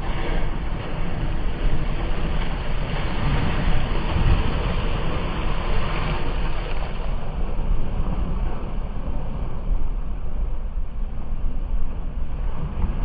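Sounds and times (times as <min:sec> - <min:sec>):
low rumble: 0:00.0 - 0:13.0
water streaming past hull: 0:00.0 - 0:13.0.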